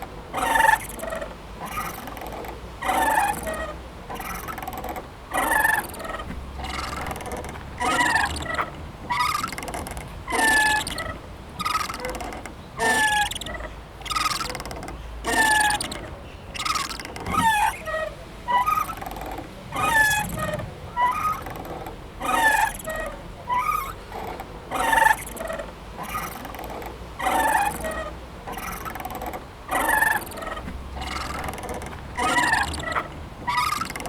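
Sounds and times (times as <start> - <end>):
playground swing squeaking: 0.0 - 34.0.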